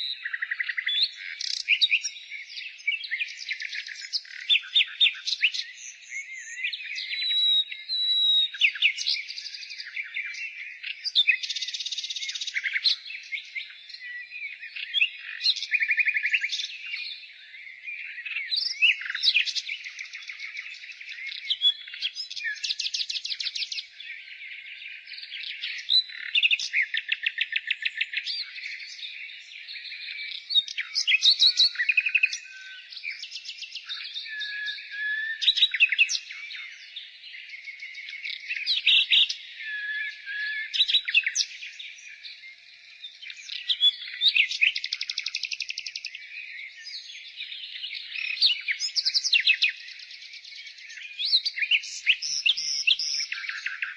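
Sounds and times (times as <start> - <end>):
faint bird twittering: 0.0 - 53.9
nightingale singing: 0.0 - 53.9.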